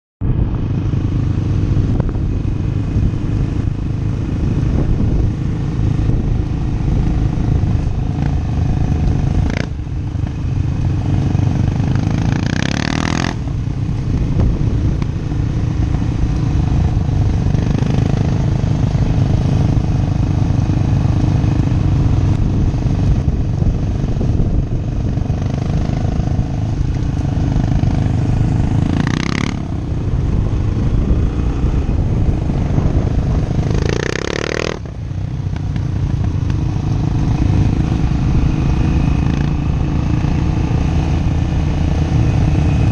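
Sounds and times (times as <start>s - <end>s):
motorcycle engine running hard: 0.2s - 42.9s.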